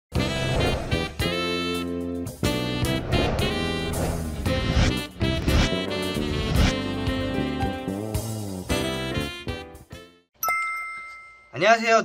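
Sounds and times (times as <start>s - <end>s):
jazz music: 0.2s - 10.3s.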